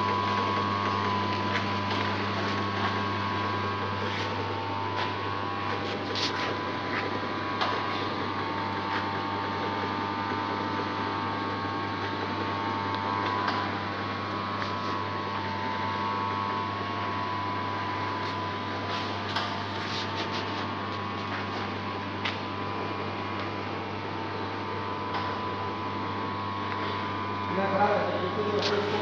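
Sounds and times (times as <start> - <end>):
machinery motor hum: 0.0 - 29.0
steady machine whine: 0.0 - 29.0.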